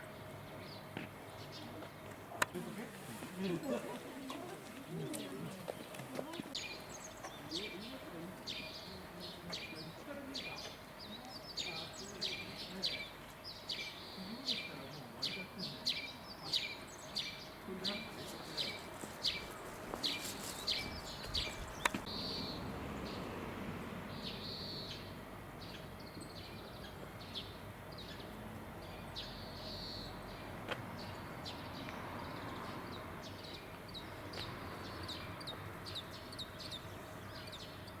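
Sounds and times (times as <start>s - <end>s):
small birds chirping: 0.0s - 38.0s
steady background noise: 0.0s - 38.0s.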